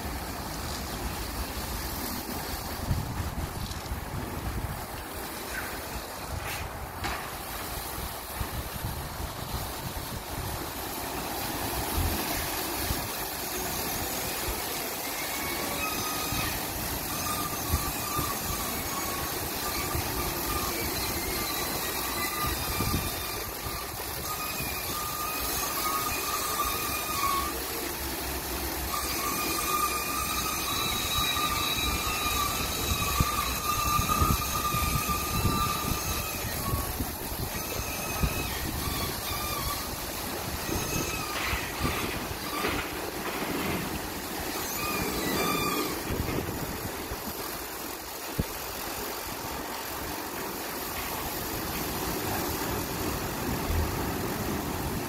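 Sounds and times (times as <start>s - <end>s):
water spraying: 0.0s - 55.0s
rotating brushes scrubbing: 4.9s - 55.0s
faint machine whine: 10.8s - 55.0s.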